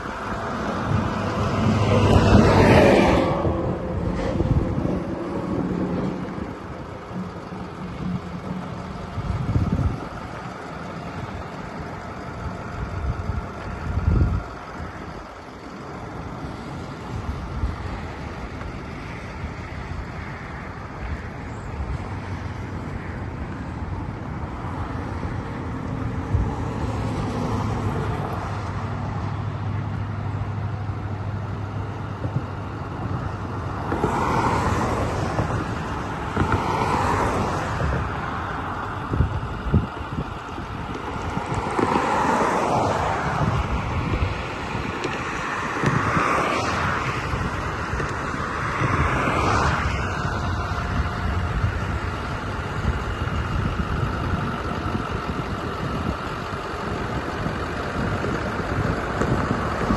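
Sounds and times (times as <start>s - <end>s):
low rumbles: 0.0s - 59.9s
street sweeper truck drone: 0.0s - 59.9s.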